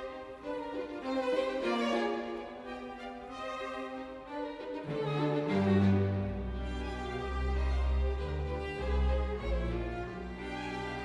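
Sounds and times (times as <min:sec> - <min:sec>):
string orchestra playing slow music: 0:00.0 - 0:11.0.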